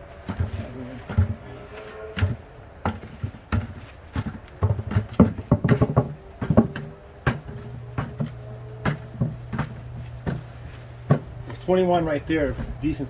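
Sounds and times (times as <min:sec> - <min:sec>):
potatoes knocking in bucket: 0:00.0 - 0:13.0.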